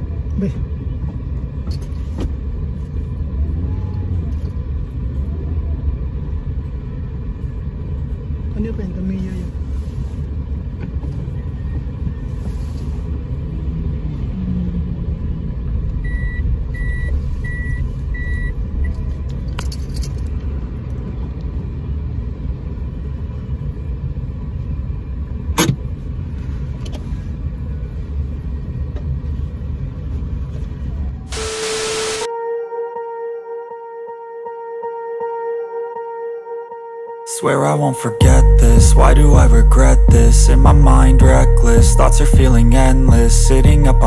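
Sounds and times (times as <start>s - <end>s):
car interior rumble: 0.0s - 32.2s, 38.2s - 44.0s.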